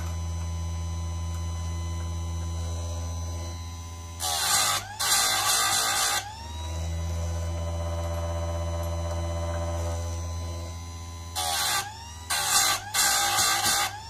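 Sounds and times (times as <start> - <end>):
chain sharpener motor humming: 0.0 - 14.0
grinding wheel grinding metal: 0.0 - 14.0.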